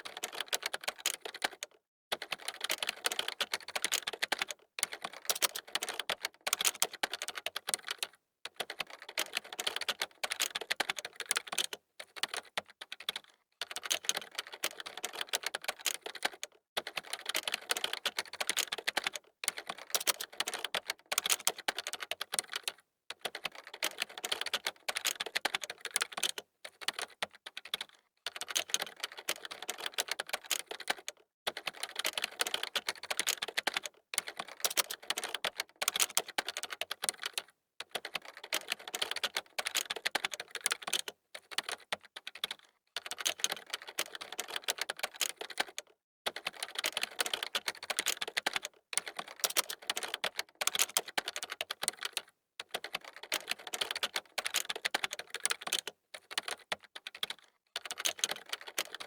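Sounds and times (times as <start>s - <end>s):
fast keyboard typing: 0.0s - 59.0s.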